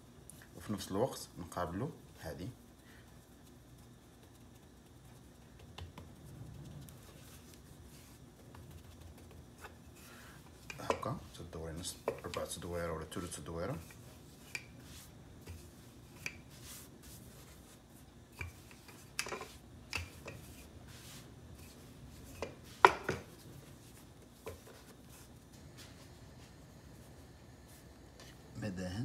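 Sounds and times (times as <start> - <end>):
rolling pin rolling dough: 0.7 - 28.8.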